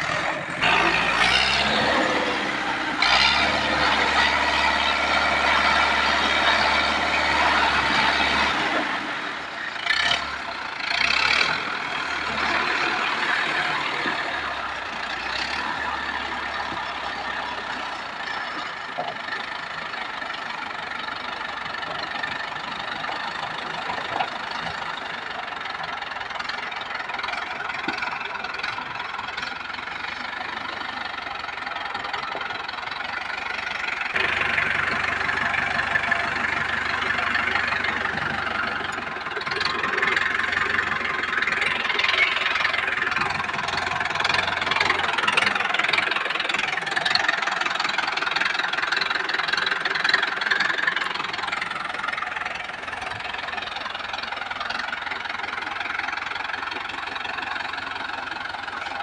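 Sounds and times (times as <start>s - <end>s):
diesel tractor engine clattering: 0.0s - 59.0s.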